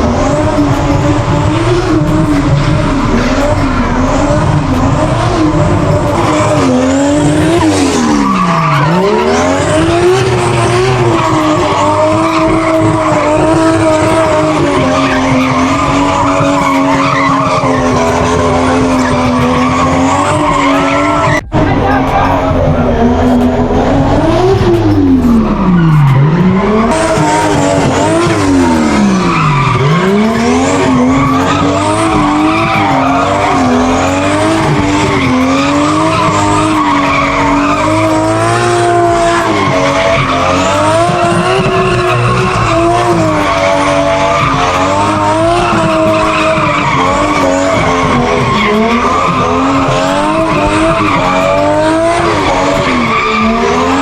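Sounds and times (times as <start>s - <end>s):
car engine revving: 0.0s - 54.0s
tyres skidding: 0.0s - 54.0s.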